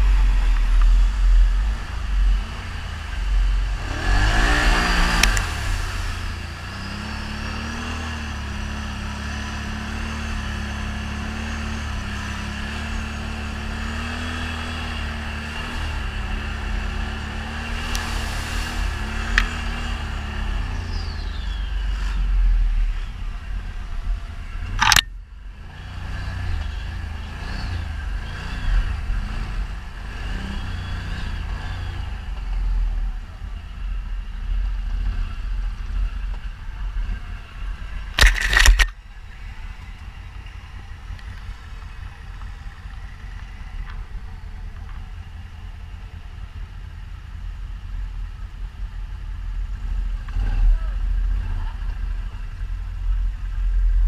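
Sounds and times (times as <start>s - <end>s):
atv engine rumbling: 0.0s - 54.0s.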